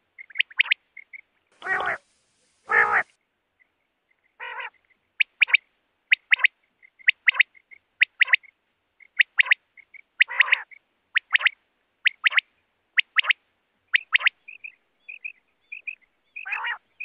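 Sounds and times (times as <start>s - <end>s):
low rough bird calls: 0.0s - 11.6s, 13.9s - 17.0s
quail song: 0.0s - 17.0s.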